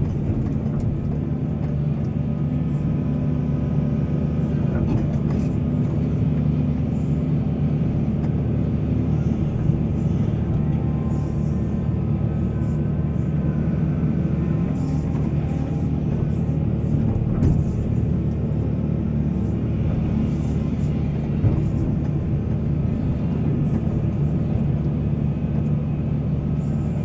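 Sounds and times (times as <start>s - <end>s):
large diesel engine running: 0.0s - 27.0s
faint whine: 4.3s - 27.0s.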